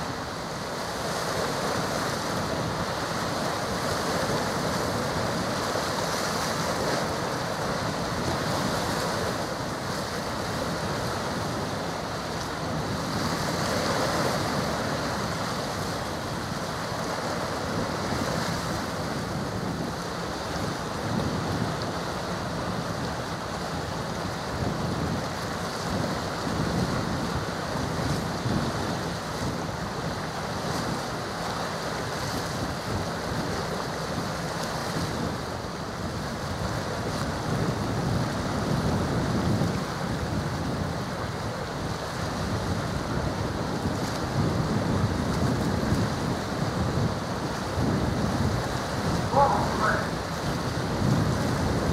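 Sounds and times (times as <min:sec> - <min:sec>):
waves washing on water: 0:00.0 - 0:51.9
wind buffeting microphone: 0:01.0 - 0:31.2, 0:32.3 - 0:51.9.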